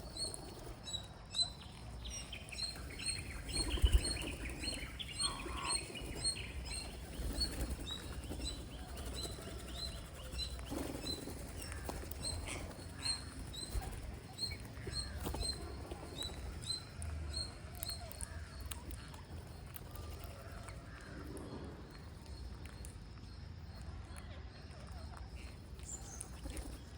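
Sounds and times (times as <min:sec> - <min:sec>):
bird chirping: 0:00.0 - 0:23.9.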